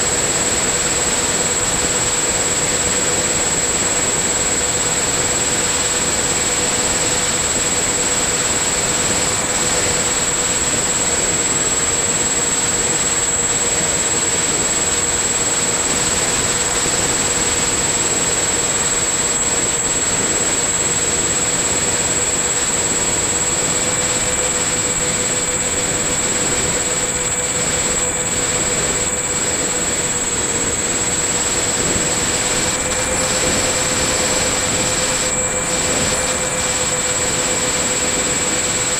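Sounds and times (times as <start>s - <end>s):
model aircraft motor whine: 0.0s - 38.9s.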